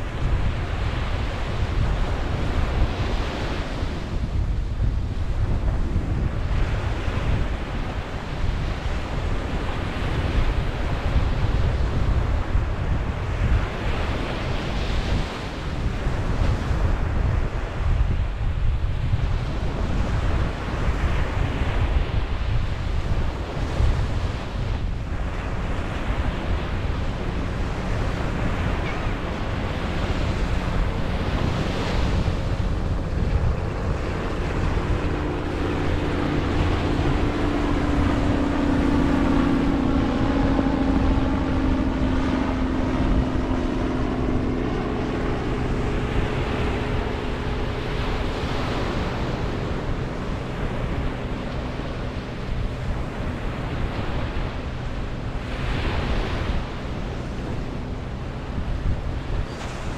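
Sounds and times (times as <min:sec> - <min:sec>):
low motor drone: 0:00.0 - 0:59.9
ocean surf breaking on beach: 0:00.0 - 0:59.9
wind buffeting microphone: 0:00.0 - 0:59.9.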